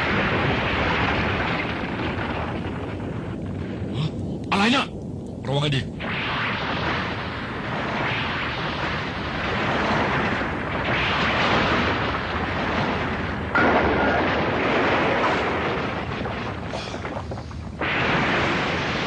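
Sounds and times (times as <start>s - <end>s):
explosions and rumbling: 0.0s - 19.0s.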